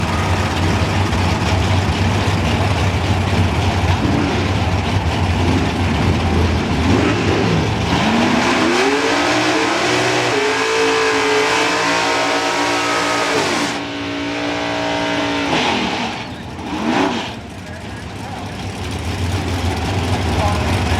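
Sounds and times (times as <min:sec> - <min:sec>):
race car engine revving: 0:00.0 - 0:20.9.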